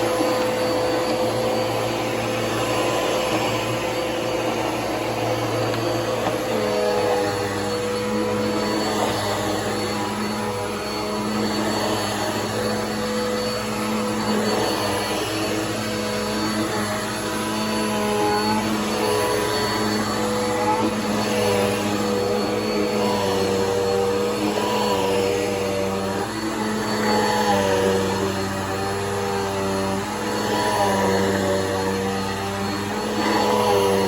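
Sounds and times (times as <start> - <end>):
upright vacuum cleaner running: 0.0 - 34.0.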